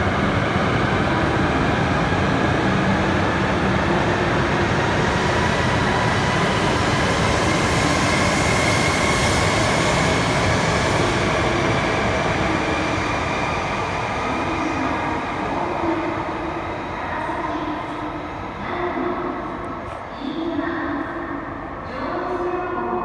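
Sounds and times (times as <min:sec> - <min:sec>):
train wheels rushing on rail: 0:00.0 - 0:20.2.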